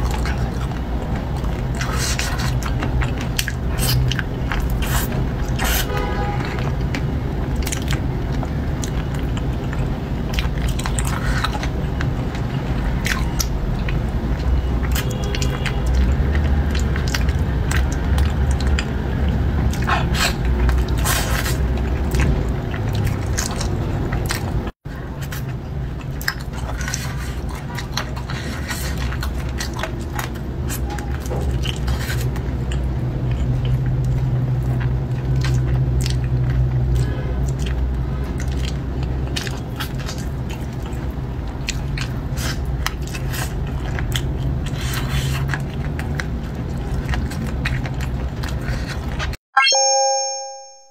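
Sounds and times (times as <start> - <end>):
chewing and biting with crunches: 0.0 - 49.4.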